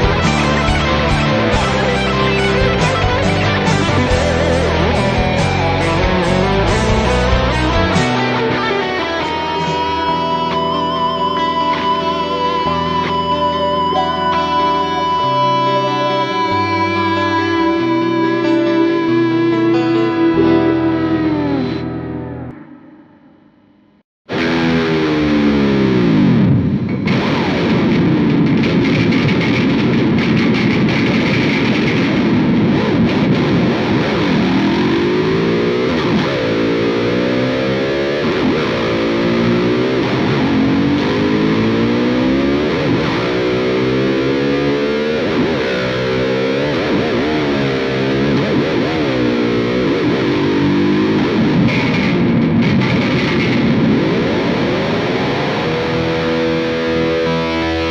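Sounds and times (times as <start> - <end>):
distorted electric guitar: 0.0 - 57.9.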